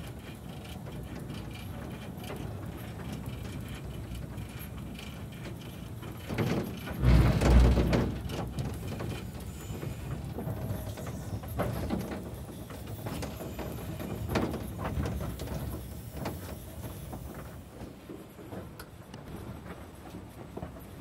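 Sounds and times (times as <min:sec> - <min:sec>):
steam locomotive clanks and knocks: 0:00.0 - 0:21.0.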